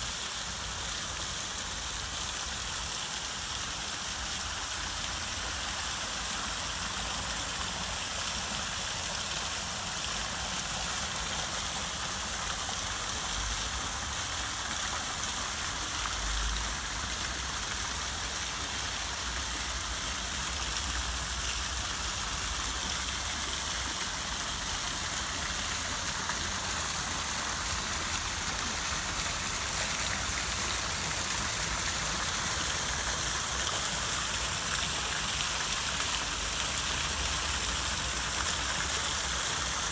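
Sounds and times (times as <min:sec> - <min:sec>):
fountain spray: 0:00.0 - 0:39.9
small waterfall pouring: 0:00.0 - 0:39.9.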